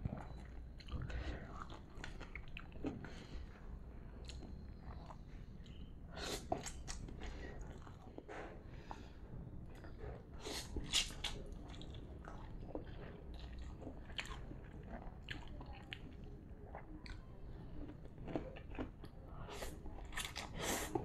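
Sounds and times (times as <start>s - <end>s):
crunchy chewing: 0.0s - 3.3s, 4.1s - 8.3s, 9.7s - 21.0s.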